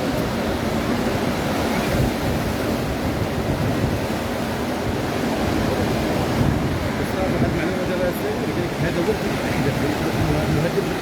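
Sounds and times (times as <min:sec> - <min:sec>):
surf rushing on beach: 0:00.0 - 0:11.0
wind buffeting microphone: 0:00.0 - 0:11.0.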